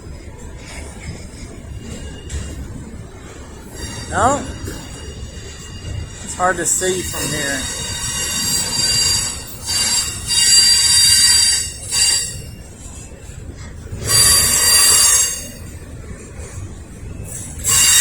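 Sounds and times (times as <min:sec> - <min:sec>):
low train rumble: 0:00.0 - 0:18.0
train wheels squealing: 0:00.4 - 0:18.0.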